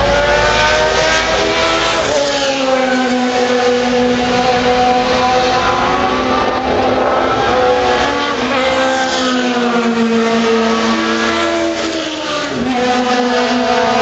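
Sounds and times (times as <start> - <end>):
race cars passing at speed: 0.0 - 14.0.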